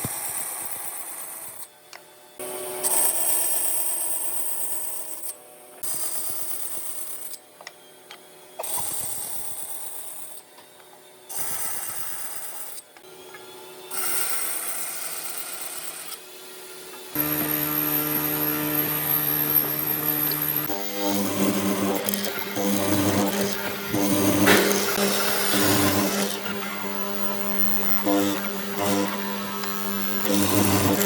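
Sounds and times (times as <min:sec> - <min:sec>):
hand-held power tool: 0:00.0 - 0:31.0.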